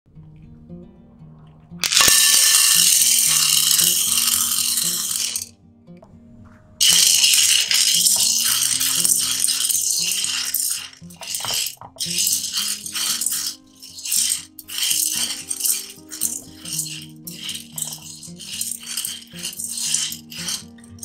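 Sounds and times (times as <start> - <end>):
background music: 0.1 - 21.0
popcorn kernels rattling in a pan: 1.8 - 5.5, 6.8 - 21.0.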